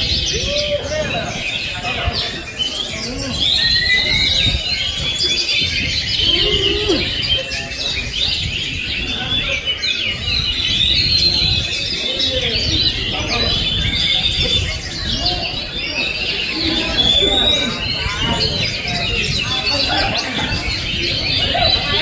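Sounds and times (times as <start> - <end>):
murmur of voices: 0.0 - 22.0
songbirds singing in chorus: 0.0 - 22.0.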